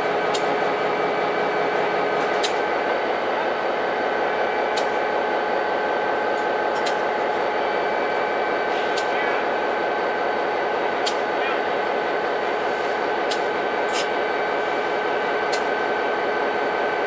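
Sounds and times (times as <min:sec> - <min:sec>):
train equipment hum and hiss: 0:00.0 - 0:17.0.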